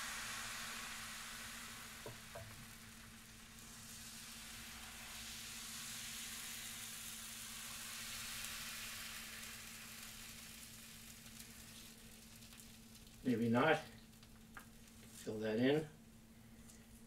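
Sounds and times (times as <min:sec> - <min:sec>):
crepe batter sizzling: 0:00.0 - 0:17.0.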